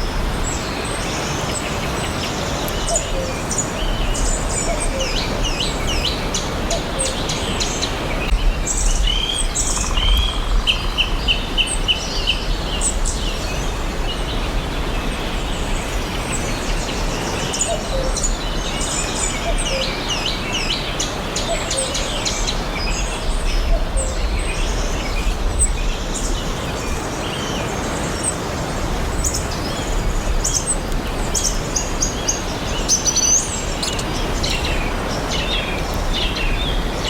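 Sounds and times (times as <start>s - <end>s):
songbirds chirping and singing: 0.0s - 37.0s
steady background hiss: 0.0s - 37.0s.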